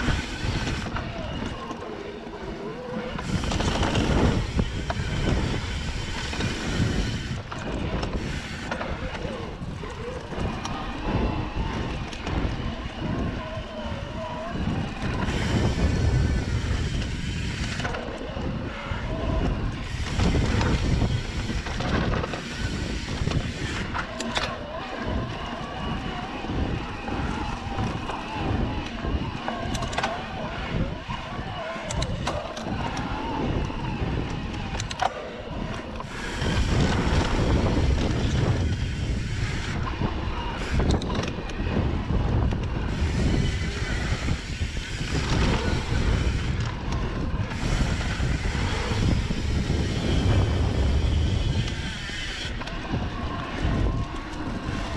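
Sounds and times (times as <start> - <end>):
mountain bike rumble and rattle: 0.0 - 54.9
wind rushing over microphone: 0.0 - 54.9.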